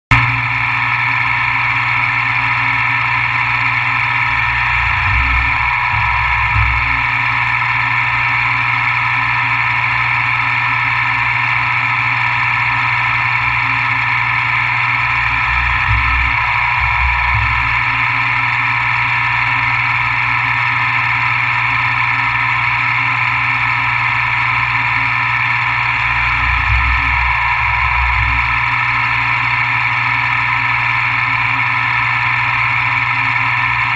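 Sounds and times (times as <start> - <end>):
low machine rumble: 0.1 - 33.9
milling machine whine: 0.1 - 33.9.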